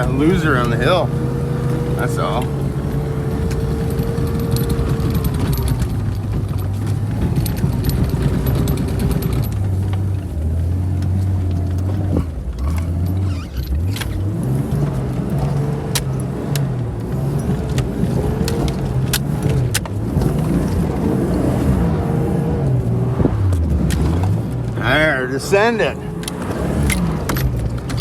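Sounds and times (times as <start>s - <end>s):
vehicle engine under load: 0.0s - 28.0s
vehicle rattles and clicks: 0.0s - 28.0s.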